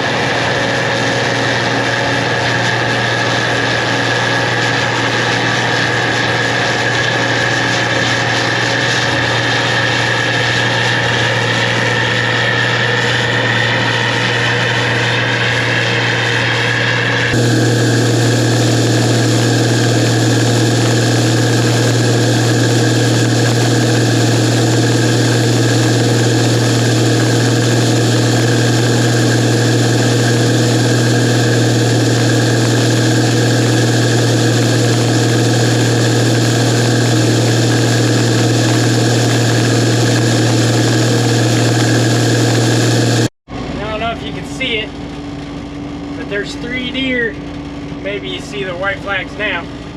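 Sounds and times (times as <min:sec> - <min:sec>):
combine harvester humming: 0:00.0 - 0:49.9.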